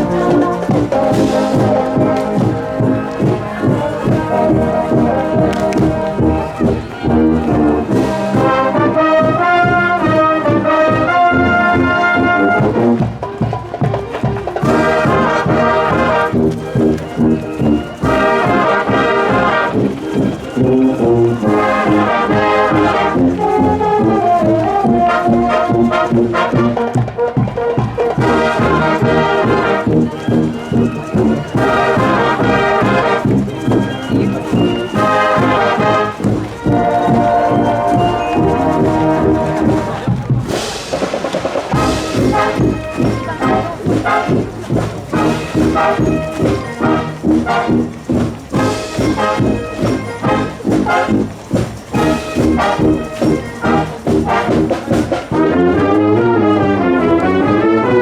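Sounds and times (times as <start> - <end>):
steady drum beat: 0.0 - 55.5
marching band brass melody: 0.0 - 58.0.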